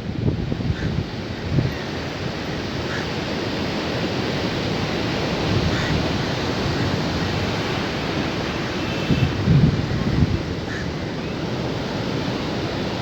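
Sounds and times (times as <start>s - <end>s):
sea surf washing onto beach: 0.0s - 13.0s.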